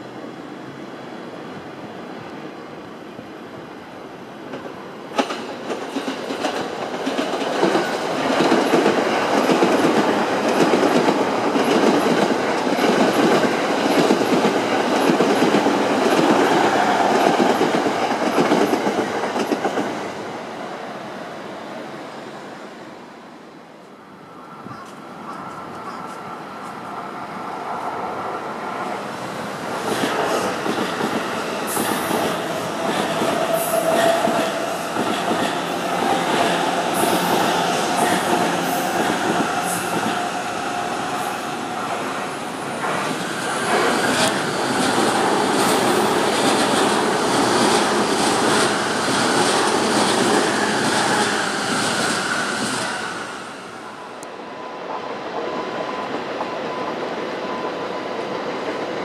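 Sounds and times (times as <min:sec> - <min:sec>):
electric train whine: 0:00.0 - 0:59.0.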